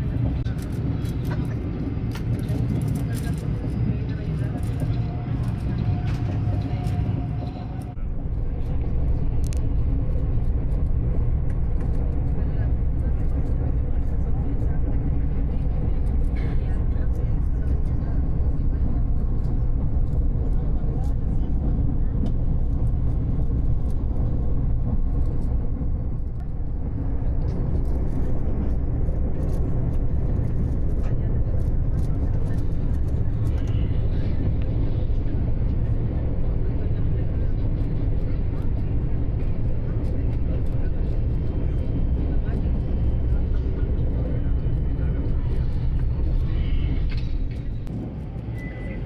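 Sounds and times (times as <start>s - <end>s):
train rumbling inside carriage: 0.0s - 49.0s.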